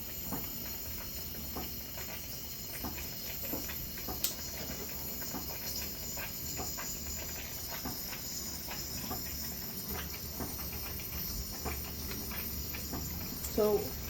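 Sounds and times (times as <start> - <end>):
water spurting and trickling: 0.0 - 14.0.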